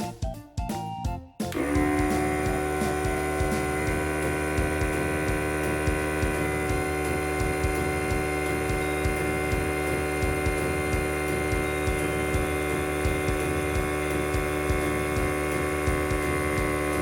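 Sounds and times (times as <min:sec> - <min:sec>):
air compressor running: 0:01.5 - 0:17.0.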